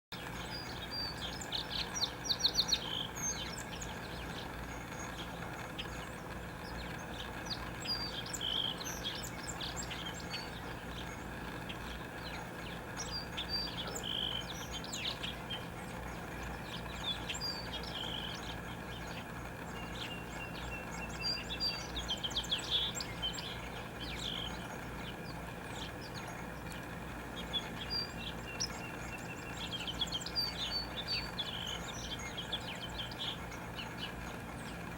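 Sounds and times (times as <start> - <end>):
songbirds chirping and trilling: 0.1 - 34.9
low background hum: 0.2 - 34.9.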